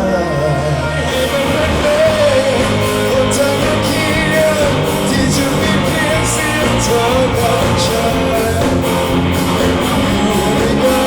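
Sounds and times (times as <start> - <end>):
person singing: 0.0 - 11.0
rock band playing: 0.0 - 11.0.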